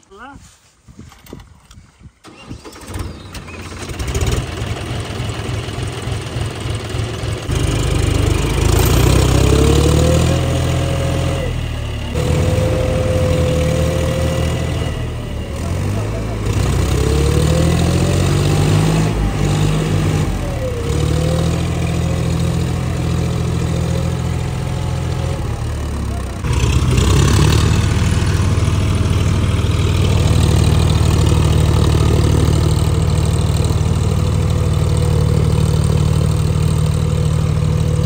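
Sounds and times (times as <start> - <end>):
tractor diesel engines under load: 0.0 - 38.0.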